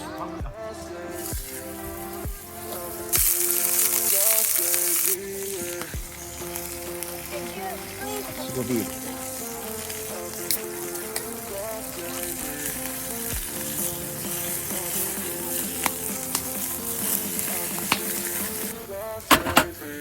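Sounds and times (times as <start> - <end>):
food sizzling in hot oil: 1.0 - 20.0.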